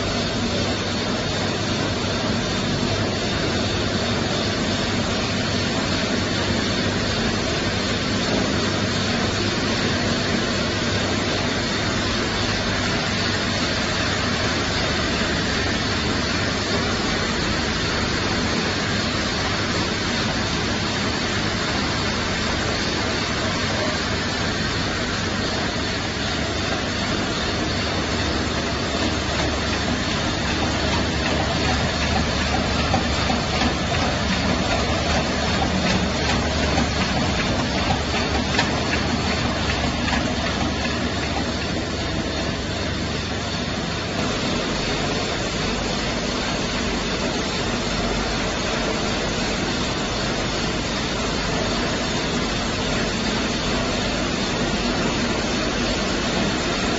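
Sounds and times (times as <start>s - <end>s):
bottling machinery noise: 0.0s - 56.9s.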